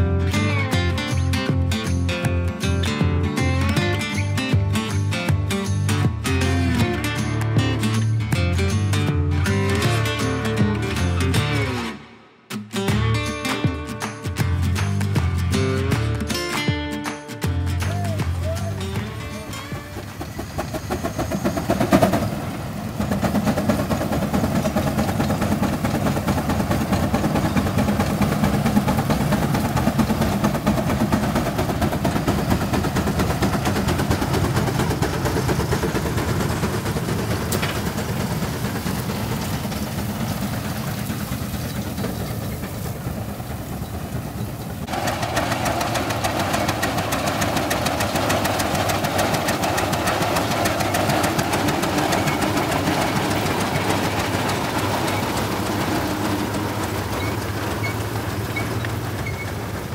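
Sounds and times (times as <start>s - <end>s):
tractor engines under load: 0.0s - 12.1s, 17.7s - 59.9s.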